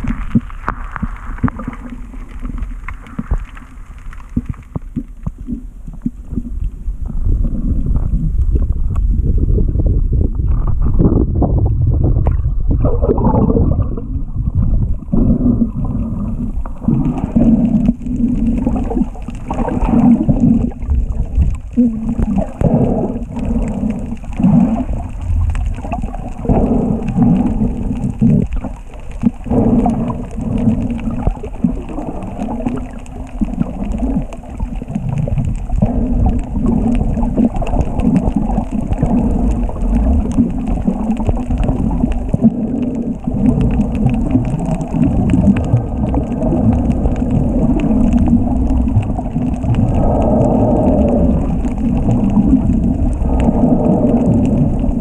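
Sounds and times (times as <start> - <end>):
muffled underwater rumbling: 0.0 - 55.0.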